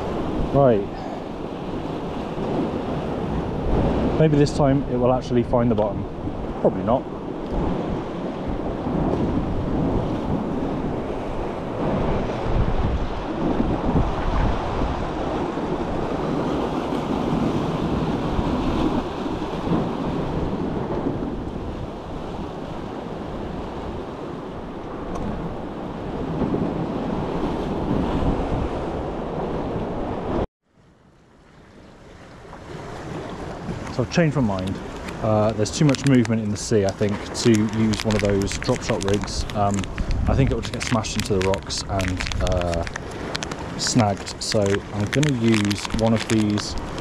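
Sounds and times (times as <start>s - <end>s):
wind buffeting microphone: 0.0s - 30.4s, 32.7s - 47.0s.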